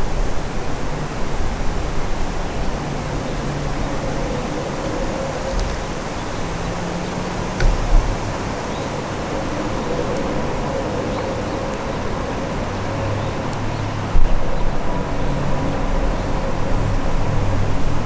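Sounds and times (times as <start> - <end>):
wind blowing: 0.0 - 18.0
wind gust buffeting microphone: 0.0 - 18.0.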